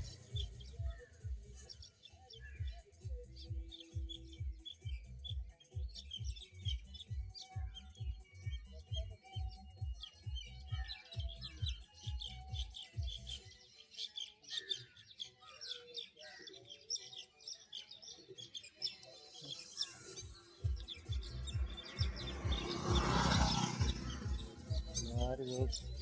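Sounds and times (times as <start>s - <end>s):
birds chirping and twittering: 0.0s - 26.0s.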